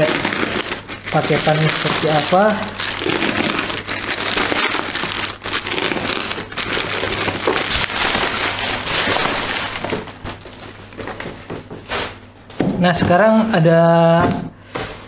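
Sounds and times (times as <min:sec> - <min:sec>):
plastic bag and bubble wrap crinkling: 0:00.0 - 0:12.2.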